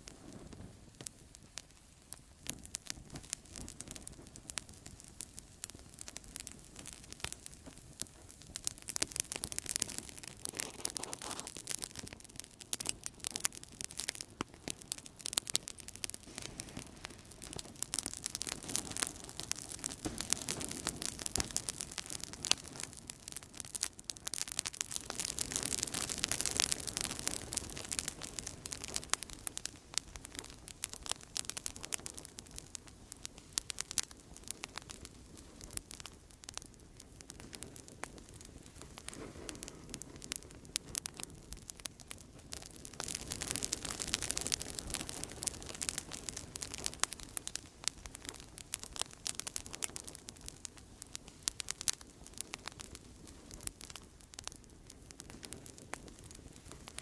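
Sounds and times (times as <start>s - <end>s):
campfire crackling and popping: 0.0s - 57.0s
hiss of flames: 0.0s - 57.0s.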